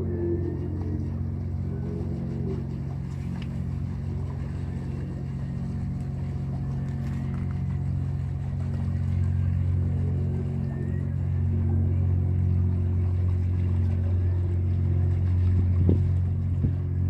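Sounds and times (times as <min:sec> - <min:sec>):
boat diesel engine droning: 0:00.0 - 0:17.0.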